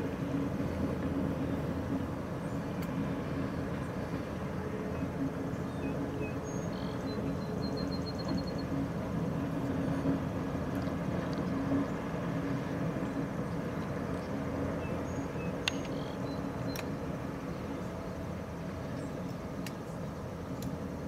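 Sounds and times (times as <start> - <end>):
distant diesel locomotives droning: 0.0 - 21.0.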